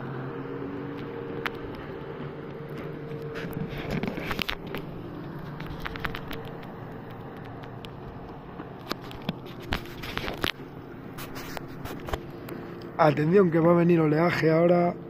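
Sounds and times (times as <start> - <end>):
distant motorboat engine hum: 0.0 - 15.0.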